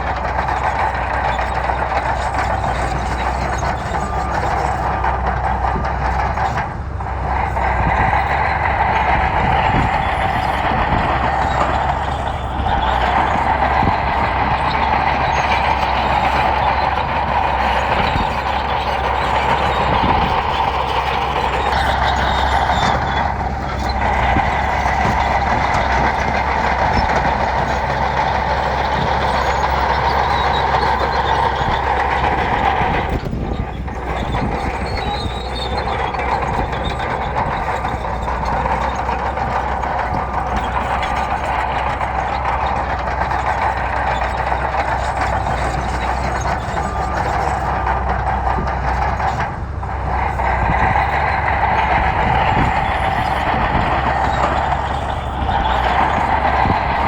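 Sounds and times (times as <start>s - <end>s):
bulldozer diesel engine under load: 0.0s - 57.0s
steel tracks clattering: 0.0s - 57.0s.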